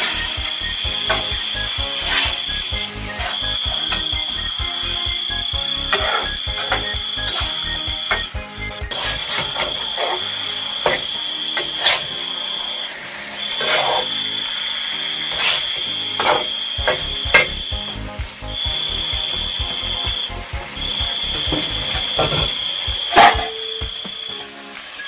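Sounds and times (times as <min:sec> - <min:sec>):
high-pitched whine: 0:00.0 - 0:25.0.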